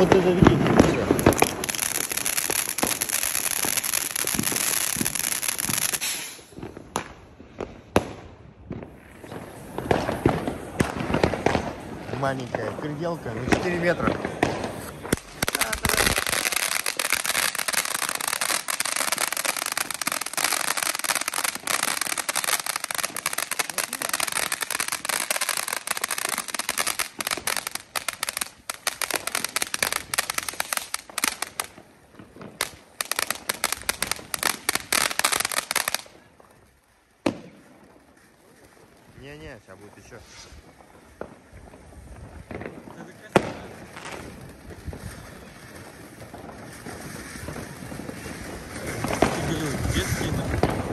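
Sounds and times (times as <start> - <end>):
firework fountain hissing and crackling: 0.0 - 50.9.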